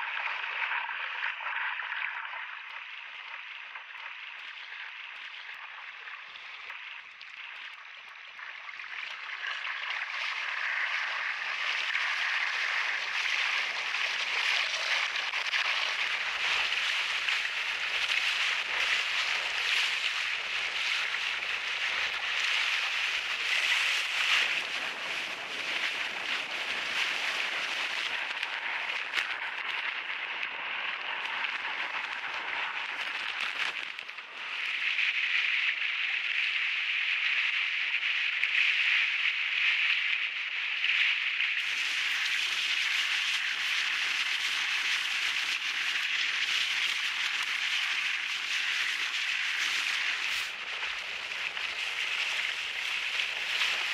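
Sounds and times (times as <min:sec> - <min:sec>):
crackling splashes: 0:00.0 - 0:53.9.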